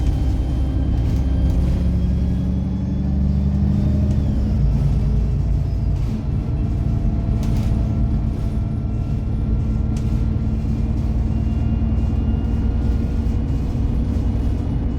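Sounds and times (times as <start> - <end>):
bus engine rumbling: 0.0 - 14.9.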